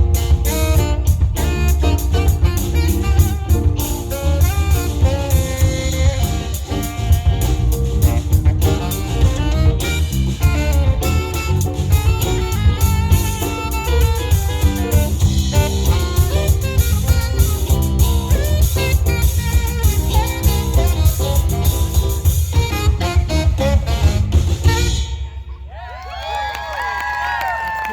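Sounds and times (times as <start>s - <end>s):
tenor saxophone lead: 0.0s - 25.5s
funk band playing: 0.0s - 25.7s.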